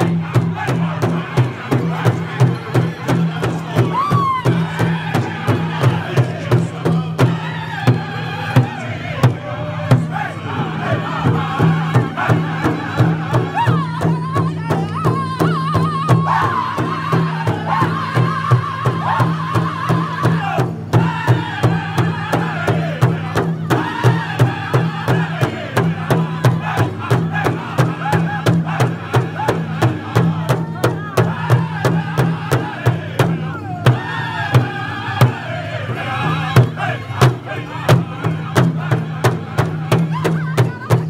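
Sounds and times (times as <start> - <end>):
large drum beat: 0.0 - 41.0
men singing together: 0.0 - 41.0.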